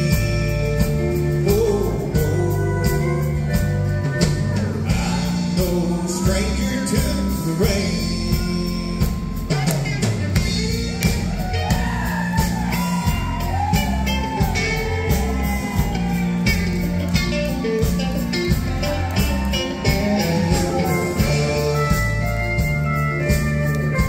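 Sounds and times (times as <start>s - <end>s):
bass guitar: 0.0s - 24.0s
electric guitar lead bending notes: 0.0s - 24.0s
steady drum beat: 0.0s - 24.0s.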